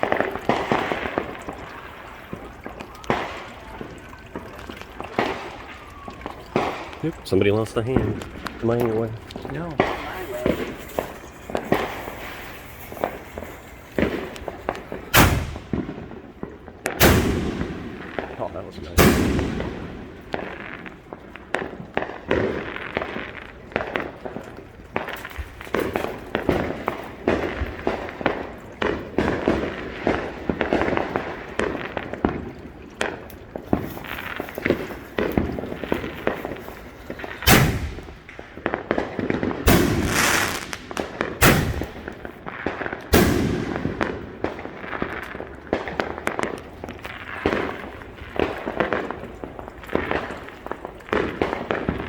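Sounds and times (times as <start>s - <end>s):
fireworks crackling pops: 0.0s - 52.0s
loud firework bangs: 0.0s - 52.0s.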